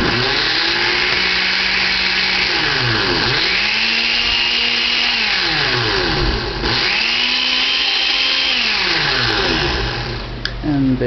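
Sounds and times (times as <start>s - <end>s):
blender motor running: 0.0s - 10.4s.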